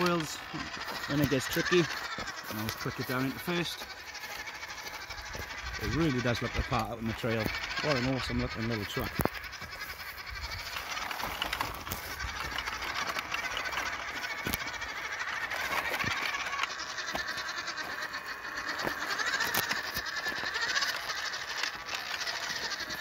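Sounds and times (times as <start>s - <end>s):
electric motor whining: 0.0s - 23.0s
tyres crunching over stones: 0.0s - 23.0s.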